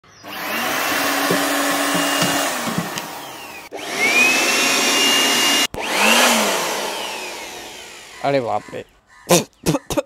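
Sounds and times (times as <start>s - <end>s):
electric air blower running: 0.2s - 8.4s.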